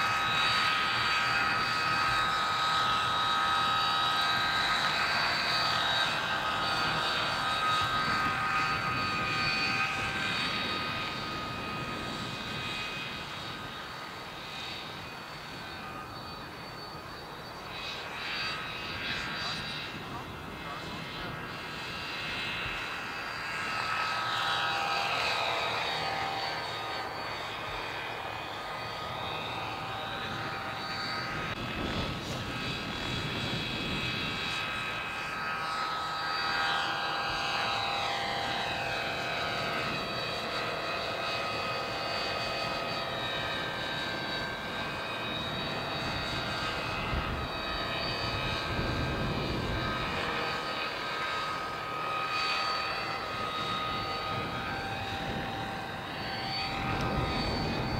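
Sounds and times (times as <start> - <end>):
model helicopter whine: 0.0 - 57.9.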